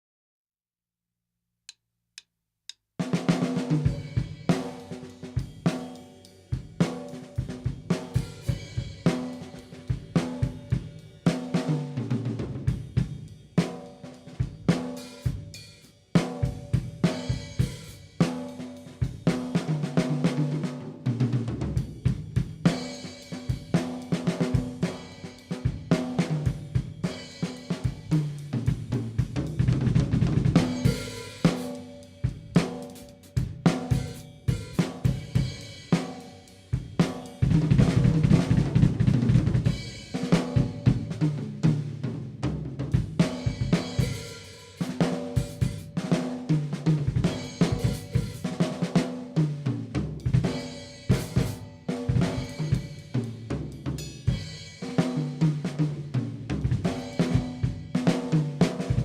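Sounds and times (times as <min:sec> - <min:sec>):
drum kit playing a groove: 0:03.0 - 0:59.0.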